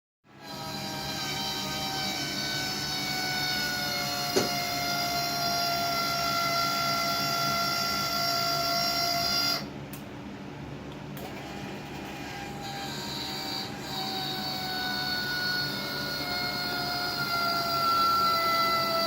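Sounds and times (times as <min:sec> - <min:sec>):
electric motor whining: 0:00.4 - 0:09.5, 0:11.2 - 0:19.0.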